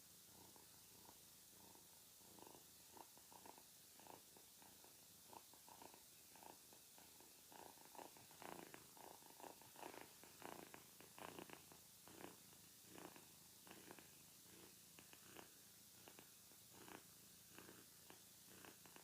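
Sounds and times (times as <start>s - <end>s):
cat purring: 0.0s - 19.0s
steady hiss: 0.0s - 19.0s.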